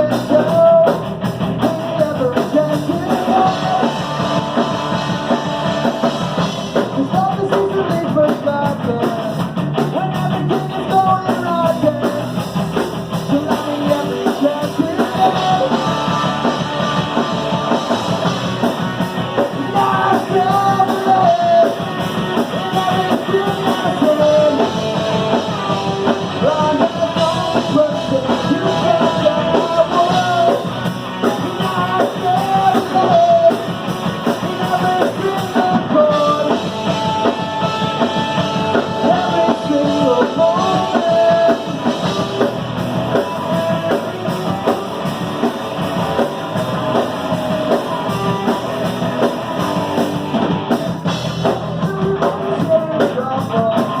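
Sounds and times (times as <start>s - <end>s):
person singing: 0.0s - 6.1s, 6.8s - 12.4s, 13.1s - 18.3s, 19.3s - 45.5s, 51.4s - 54.0s
drum kit: 0.0s - 54.0s
electric guitars: 0.0s - 54.0s.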